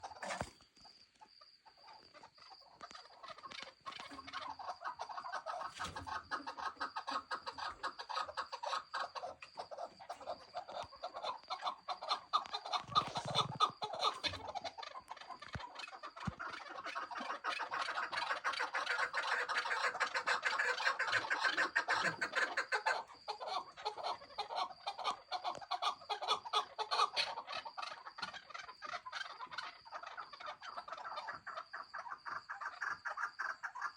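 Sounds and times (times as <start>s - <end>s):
partridge chicks peeping and chirping: 1.6s - 33.9s.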